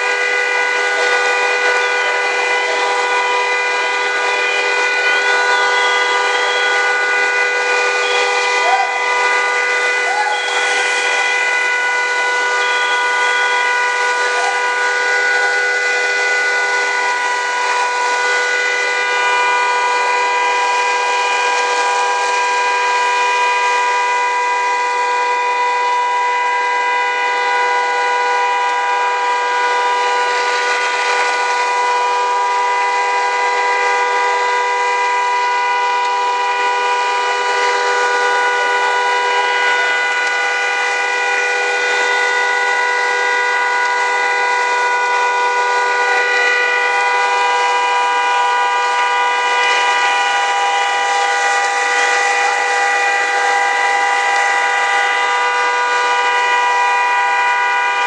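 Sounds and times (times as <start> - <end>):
car horn blaring: 0.0 - 58.0.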